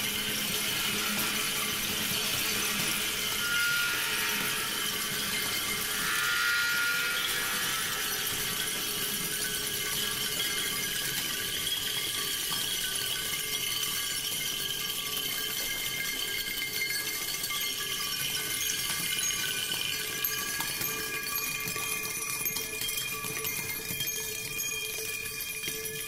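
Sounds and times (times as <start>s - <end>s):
small bells jingling and rattling: 0.0s - 3.5s, 4.1s - 26.0s
steady ringing tones: 0.0s - 26.0s.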